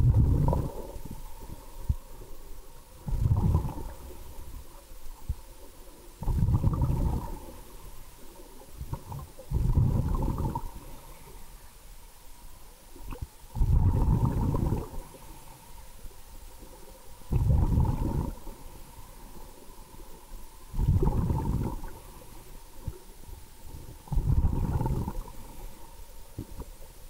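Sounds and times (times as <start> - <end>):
underwater exhaled bubbles: 0.0 - 2.2, 2.9 - 11.4, 13.0 - 15.7, 16.7 - 26.8
faint steady whine: 0.0 - 27.0.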